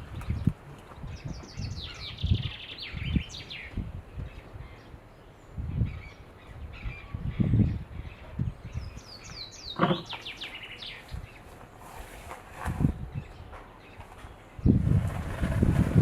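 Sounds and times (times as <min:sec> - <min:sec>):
songbird chirping: 0:00.0 - 0:15.5
outdoor ambience: 0:00.0 - 0:16.0.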